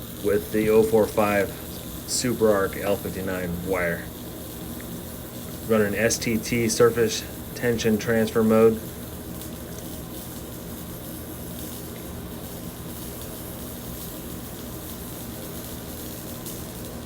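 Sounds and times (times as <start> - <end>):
welding arc sizzling: 0.0 - 17.0.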